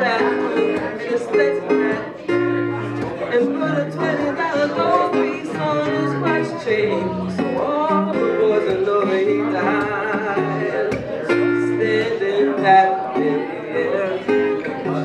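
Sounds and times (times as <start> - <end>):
acoustic guitar: 0.0 - 15.0
woman singing into microphone: 0.0 - 15.0.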